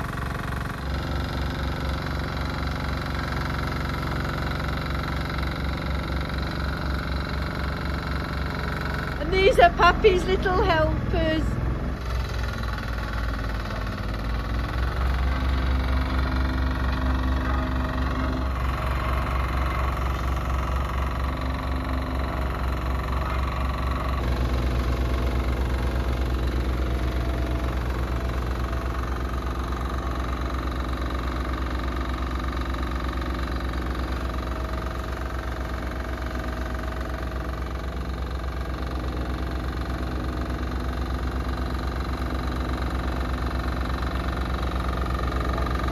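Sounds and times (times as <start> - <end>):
vibratory roller diesel engine running: 0.0 - 45.9.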